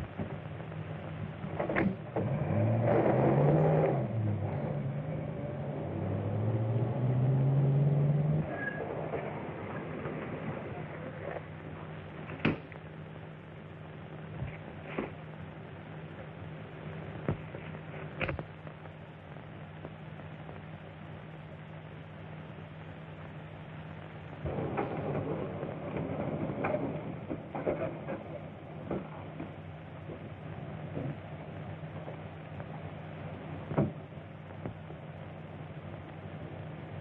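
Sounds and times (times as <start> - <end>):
film soundtrack hum and hiss: 0.0 - 37.0.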